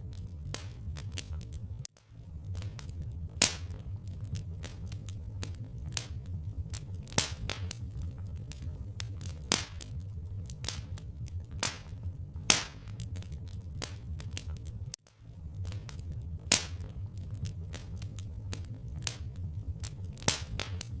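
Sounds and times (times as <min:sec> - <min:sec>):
low rumble: 0:00.0 - 0:21.0
sharp pops from fire: 0:00.0 - 0:21.0
wood fire crackling: 0:00.0 - 0:21.0.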